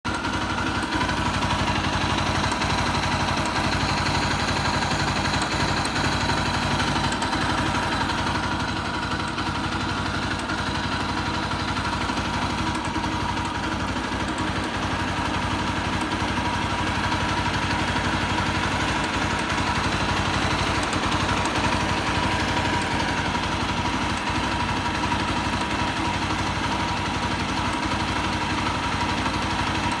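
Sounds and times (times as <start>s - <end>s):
motorcycle engine idling: 0.1s - 30.0s.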